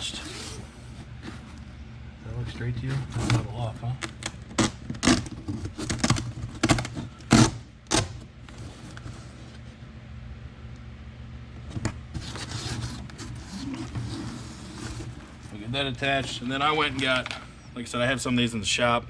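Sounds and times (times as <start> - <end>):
carpet rustling and scraping: 0.0 - 10.0, 11.5 - 17.5.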